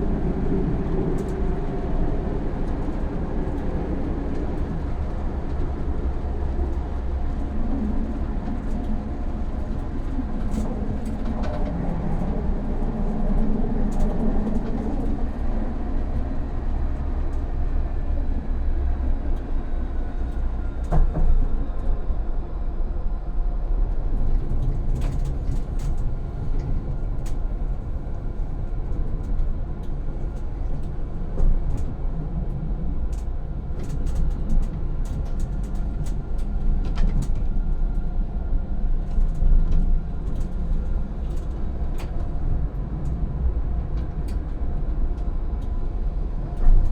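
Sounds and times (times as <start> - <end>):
tram wheels rumbling on rails: 0.0 - 46.9.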